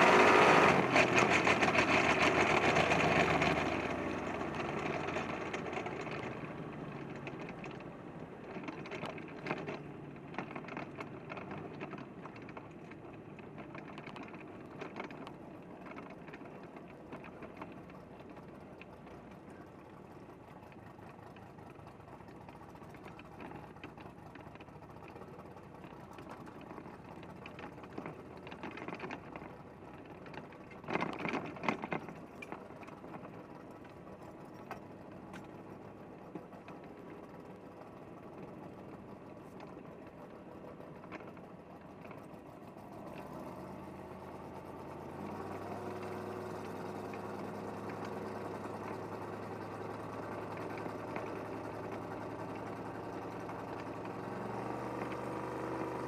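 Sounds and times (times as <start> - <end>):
drag car engine running: 0.0 - 56.0
rapid ticking clatter: 0.0 - 56.0.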